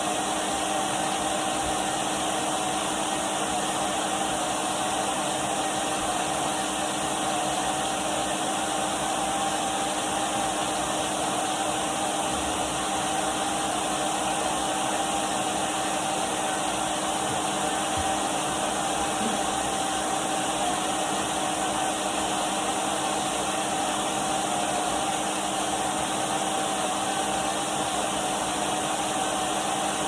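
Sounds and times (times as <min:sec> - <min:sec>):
vacuum cleaner motor running: 0:00.0 - 0:30.0.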